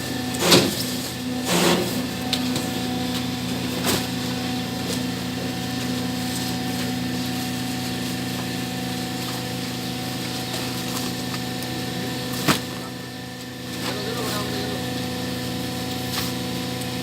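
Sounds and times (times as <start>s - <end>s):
hydraulic press motor humming: 0.0s - 17.0s.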